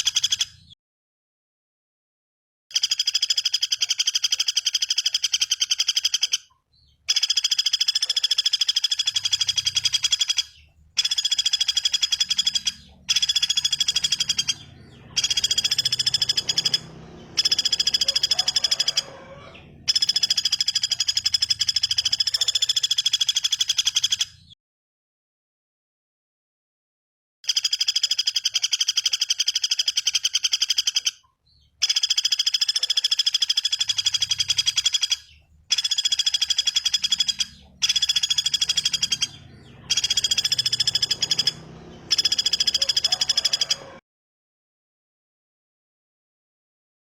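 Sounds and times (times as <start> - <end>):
bird's buzzy trill: 2.7 - 24.6, 27.4 - 44.0.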